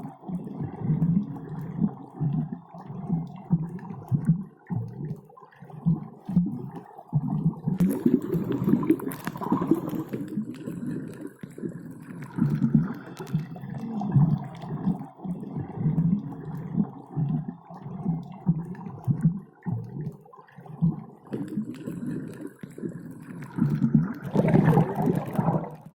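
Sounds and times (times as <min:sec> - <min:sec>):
muffled underwater bubbling: 0:00.0 - 0:26.0.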